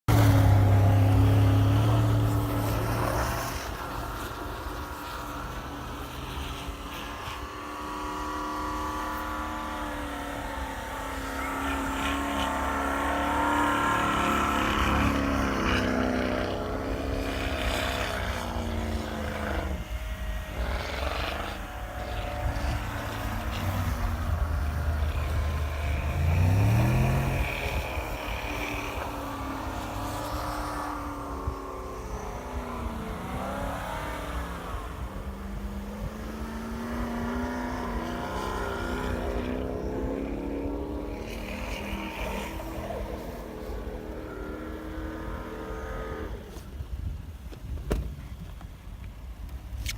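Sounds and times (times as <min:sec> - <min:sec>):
truck engines revving: 0:00.0 - 0:48.0.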